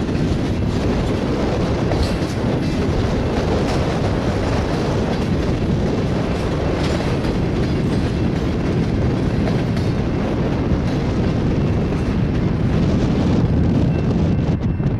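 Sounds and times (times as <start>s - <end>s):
tank cars rumbling: 0.0s - 14.9s
wheels clickety-clack over joints: 0.0s - 14.9s.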